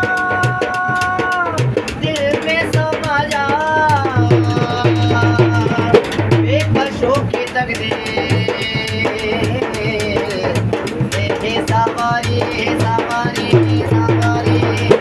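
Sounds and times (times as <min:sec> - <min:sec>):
hand drum strokes: 0:00.0 - 0:15.0
man singing: 0:00.0 - 0:15.0.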